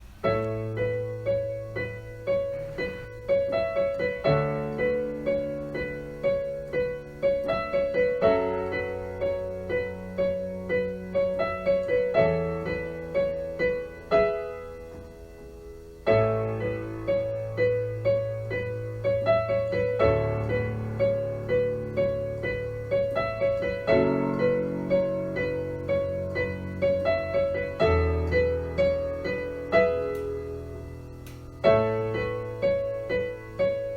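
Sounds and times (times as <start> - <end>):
electric piano playing gently: 0.0 - 33.9.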